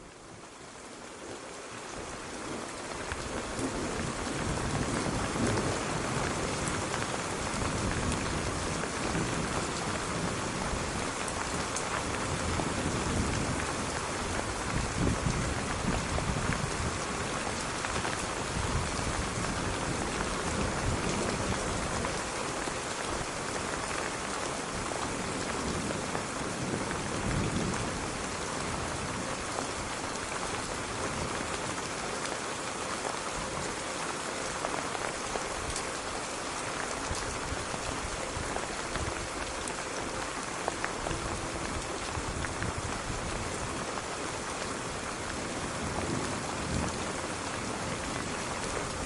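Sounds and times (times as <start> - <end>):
rain pattering: 0.0 - 49.0.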